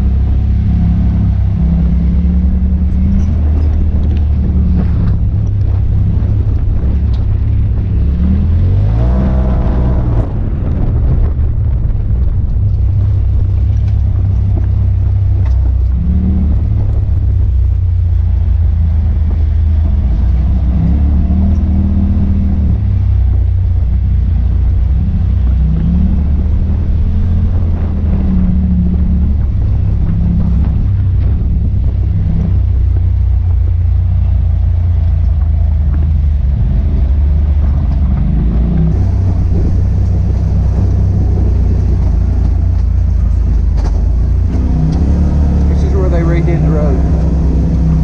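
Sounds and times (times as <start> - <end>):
vehicle engine revving: 0.0 - 48.0.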